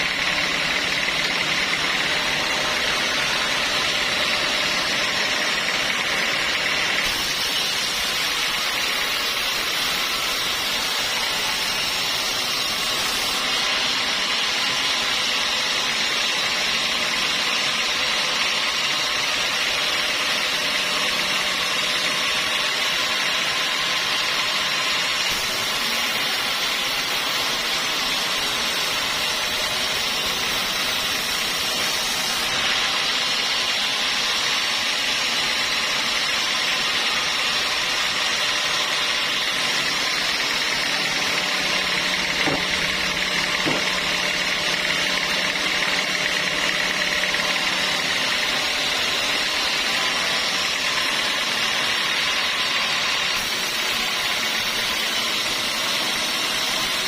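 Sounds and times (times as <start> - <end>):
sawmill saw running: 0.0 - 57.0.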